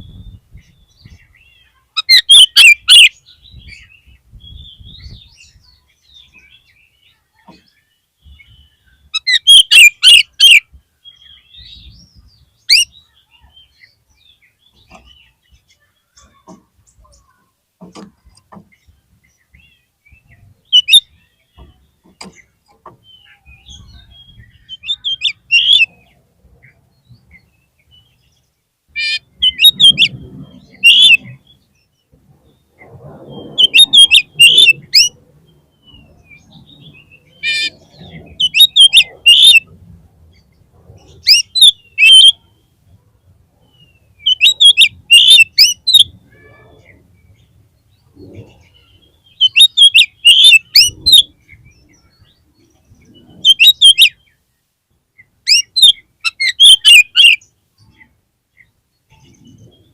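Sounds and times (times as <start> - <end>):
bird sharp chirping calls: 0.0 - 54.5, 55.2 - 59.9.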